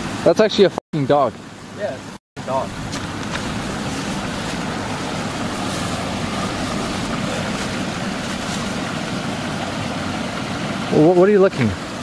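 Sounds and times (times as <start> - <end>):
water rushing from pipe: 0.0 - 12.0.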